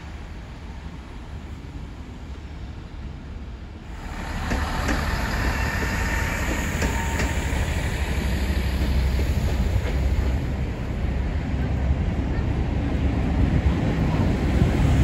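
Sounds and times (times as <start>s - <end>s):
train rumbling along platform: 0.0s - 15.0s.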